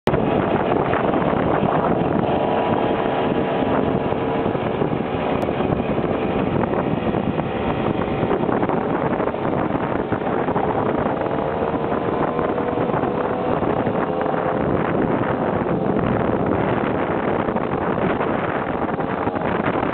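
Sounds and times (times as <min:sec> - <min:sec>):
wind noise on microphone: 0:00.0 - 0:19.9.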